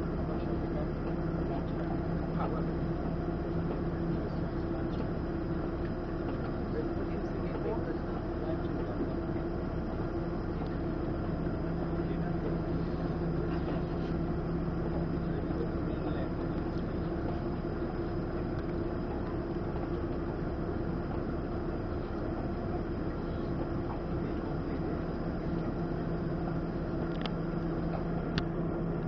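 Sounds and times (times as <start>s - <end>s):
deeper engine hum: 0.0s - 29.0s
ferry engines droning: 0.0s - 29.0s.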